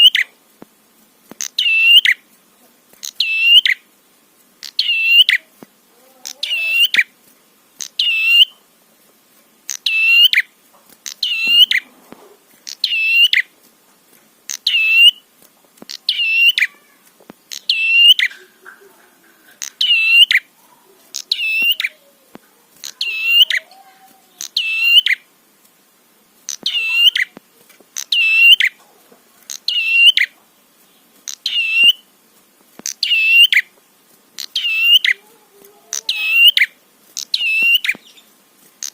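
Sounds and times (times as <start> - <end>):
bird chirping: 0.0 - 0.4, 1.4 - 3.9, 4.6 - 5.6, 6.2 - 7.2, 7.8 - 8.7, 9.6 - 13.6, 14.5 - 25.3, 26.4 - 32.1, 32.8 - 38.9.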